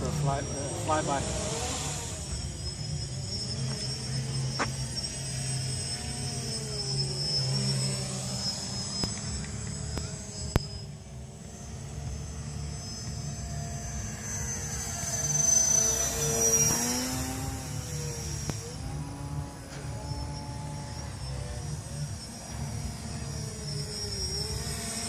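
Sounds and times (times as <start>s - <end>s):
model plane motor whine: 0.0s - 25.0s.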